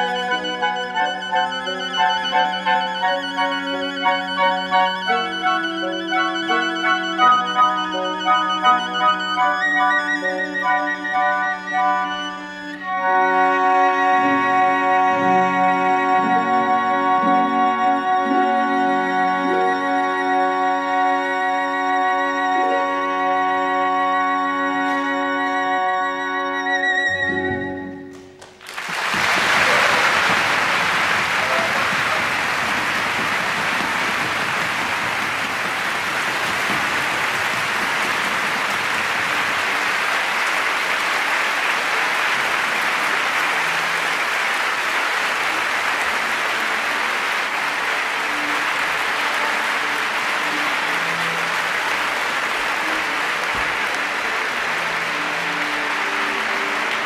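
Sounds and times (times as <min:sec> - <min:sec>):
audience applauding: 0:00.0 - 0:23.2, 0:28.0 - 0:57.0.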